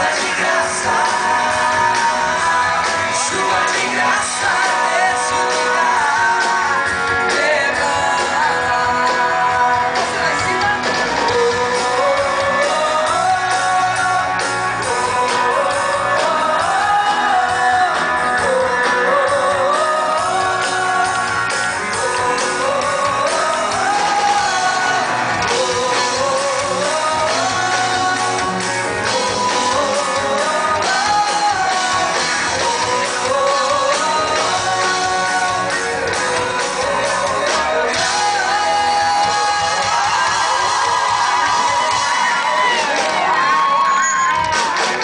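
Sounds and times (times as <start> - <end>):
live band with guitars: 0.0 - 45.0.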